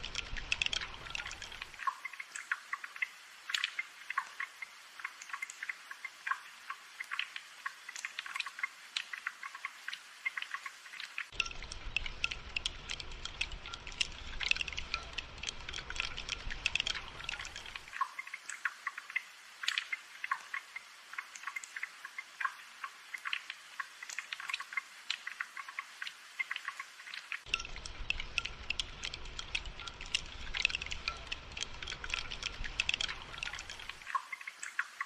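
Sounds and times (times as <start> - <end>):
rain dripping and pattering: 0.0 - 35.0.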